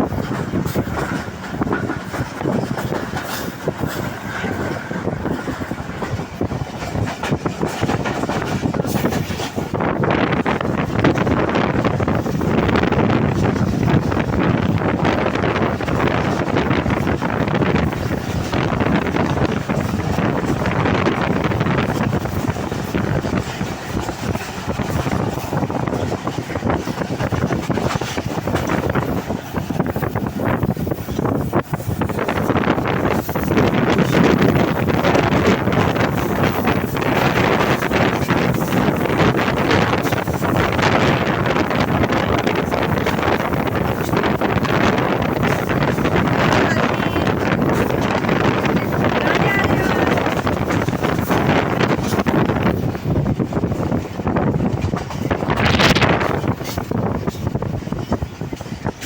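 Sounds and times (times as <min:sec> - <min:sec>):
rail clatter: 0:00.0 - 0:59.0
train rumble: 0:00.0 - 0:59.0
wind buffeting microphone: 0:00.0 - 0:59.0.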